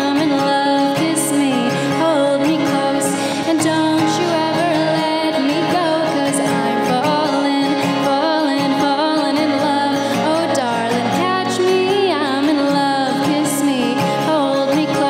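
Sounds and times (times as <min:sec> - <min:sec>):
acoustic guitar strumming: 0:00.0 - 0:15.0
woman singing: 0:00.0 - 0:15.0.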